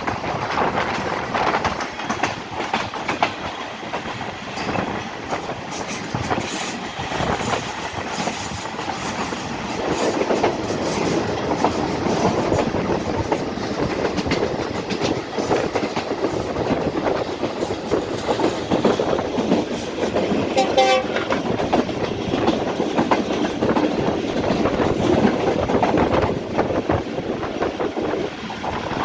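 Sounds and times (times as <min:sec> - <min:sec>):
wheels clattering over rail joints: 0:00.0 - 0:29.0.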